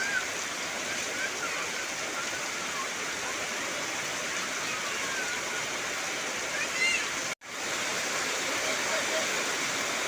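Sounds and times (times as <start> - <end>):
heavy rain on trees: 0.0 - 10.0.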